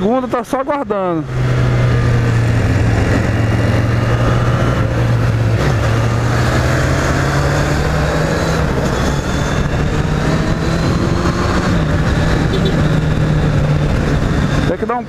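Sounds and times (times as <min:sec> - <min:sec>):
motorcycle engine while riding: 0:00.0 - 0:15.0.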